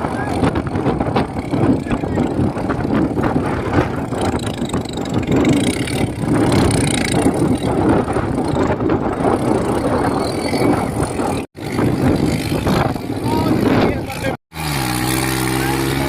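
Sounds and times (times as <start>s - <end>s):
tractor diesel engine running: 0.1s - 16.0s.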